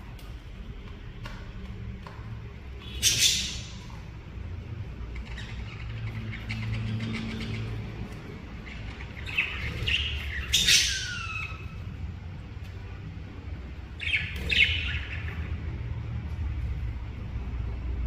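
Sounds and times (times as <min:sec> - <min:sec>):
birds chirping: 0:00.1 - 0:17.8.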